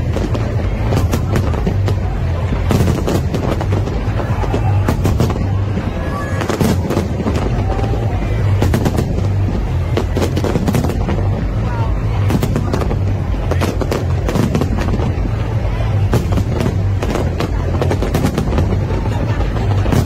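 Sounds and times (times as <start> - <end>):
fireworks bangs: 0.0 - 20.0
low rumble: 0.0 - 20.0.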